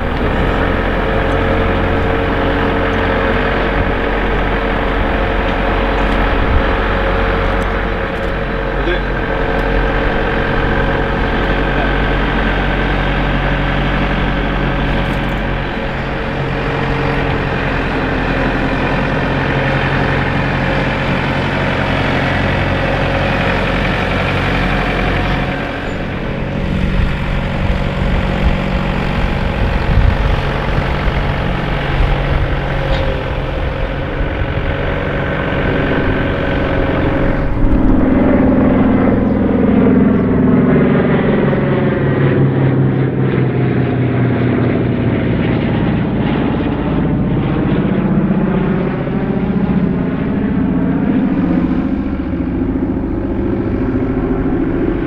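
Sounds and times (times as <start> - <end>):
piston aircraft engines running: 0.0 - 55.0
propeller aircraft flying overhead: 0.0 - 55.0.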